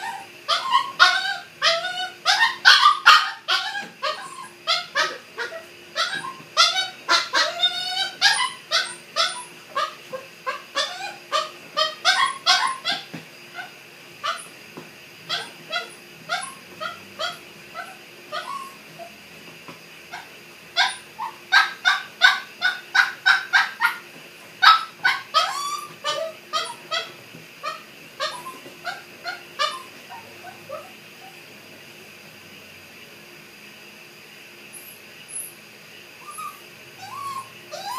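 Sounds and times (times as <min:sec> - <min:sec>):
puppy whining and yipping: 0:00.0 - 0:14.5, 0:15.3 - 0:19.2, 0:20.1 - 0:24.0, 0:24.6 - 0:31.4, 0:36.2 - 0:37.9.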